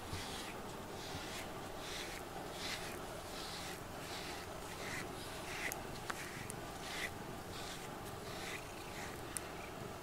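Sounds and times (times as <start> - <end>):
brush swishing through fur: 0.0 - 9.4.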